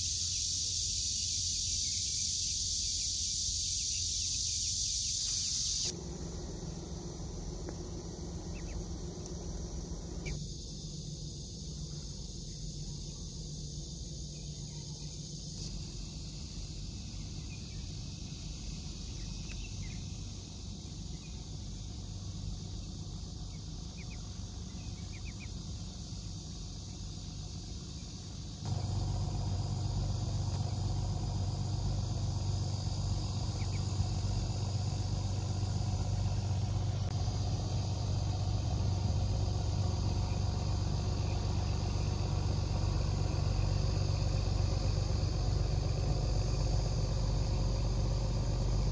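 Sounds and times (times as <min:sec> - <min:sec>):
outdoor rumble and hiss: 0:00.0 - 0:48.9.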